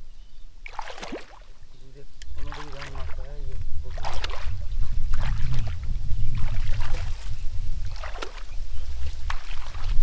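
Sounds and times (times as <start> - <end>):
wet mud squelching: 0.6 - 1.5, 2.2 - 10.0
low rumble on microphone: 1.5 - 10.0.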